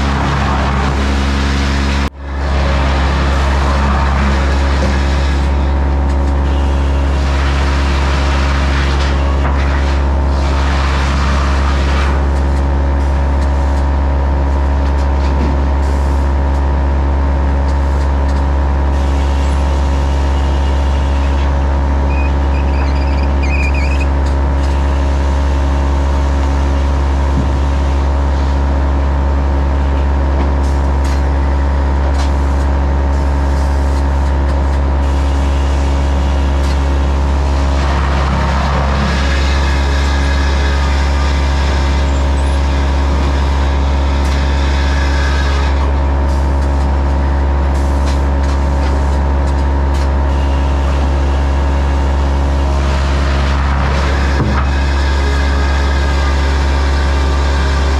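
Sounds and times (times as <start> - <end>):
sawmill machinery droning: 0.0 - 57.9.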